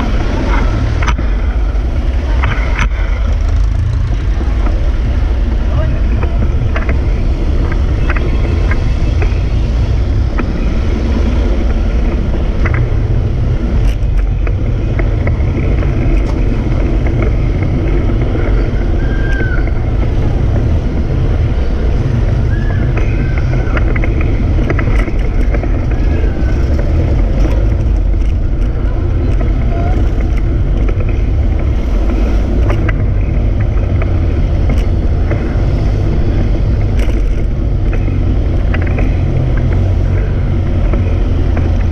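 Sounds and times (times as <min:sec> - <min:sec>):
street traffic: 0:00.0 - 0:41.9
wind buffeting microphone: 0:00.0 - 0:41.9.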